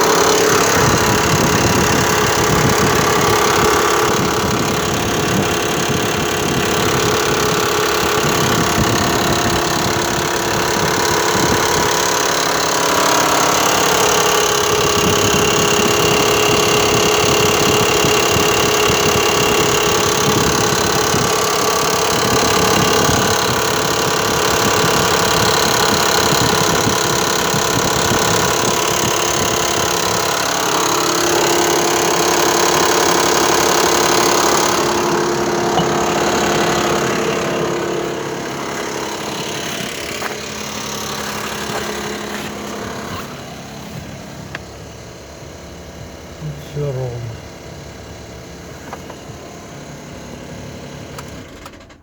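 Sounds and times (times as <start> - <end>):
car engine idling with knock: 0.0 - 52.0.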